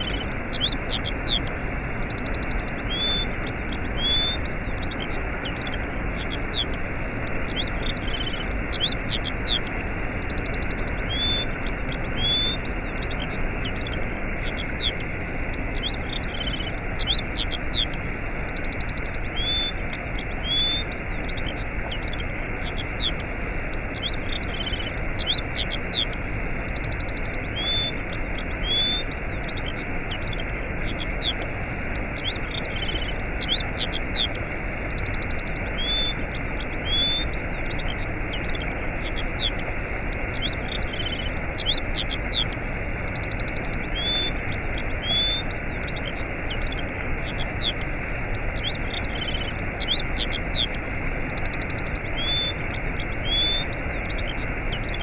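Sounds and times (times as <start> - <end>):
songbirds chirping and trilling: 0.0 - 55.0
waterfall rushing: 0.0 - 55.0.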